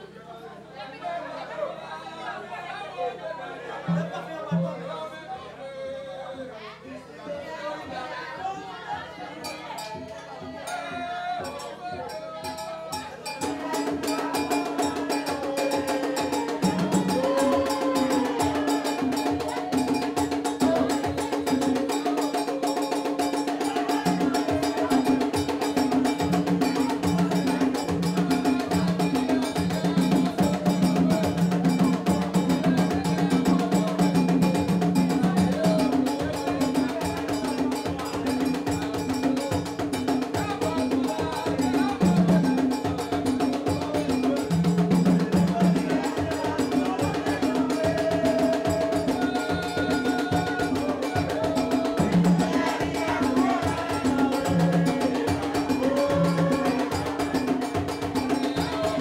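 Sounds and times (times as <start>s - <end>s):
people singing: 1.2s - 59.0s
fast percussion beat: 7.8s - 59.0s.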